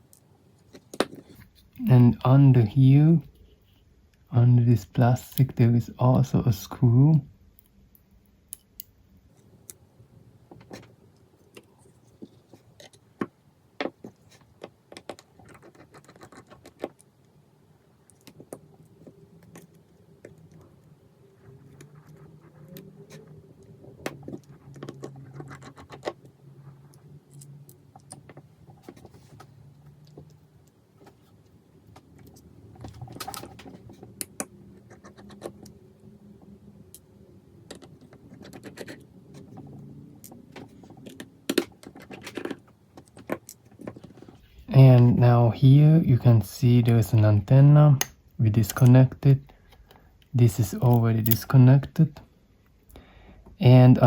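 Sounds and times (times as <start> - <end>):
faint low hum: 0.0 - 14.6, 15.2 - 54.0.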